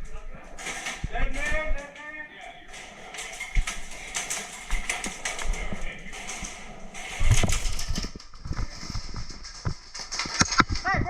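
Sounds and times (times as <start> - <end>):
handling knocks and clicks: 0.4 - 2.0, 2.7 - 11.0.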